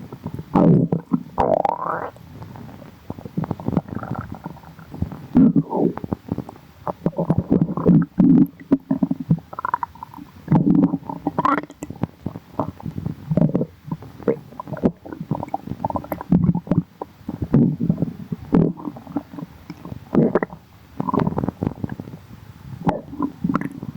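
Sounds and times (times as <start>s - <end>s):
stomach growling: 0.0s - 23.9s.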